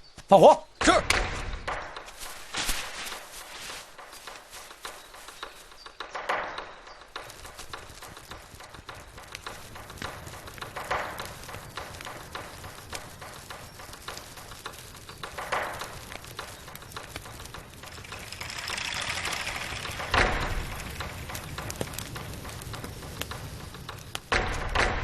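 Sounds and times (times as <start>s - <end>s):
fire crackling and roaring: 0.8s - 25.0s.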